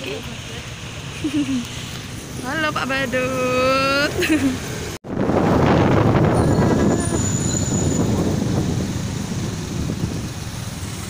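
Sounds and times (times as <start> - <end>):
motorcycle engine: 0.0 - 11.0
road noise: 0.0 - 11.0
traffic noise: 0.0 - 11.0.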